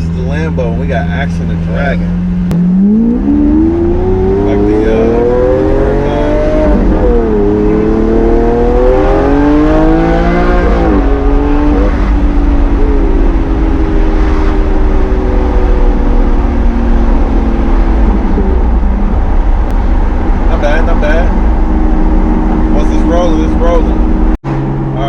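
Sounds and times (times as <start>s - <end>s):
road rumble: 0.0s - 25.0s
sports car engine revving: 0.0s - 25.0s.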